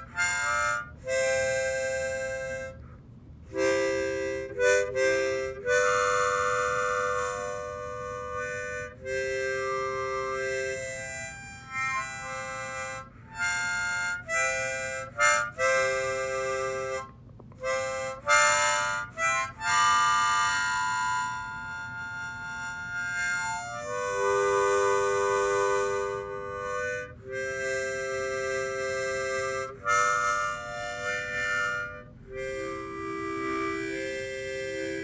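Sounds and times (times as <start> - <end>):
background music melody: 3.5 - 35.0.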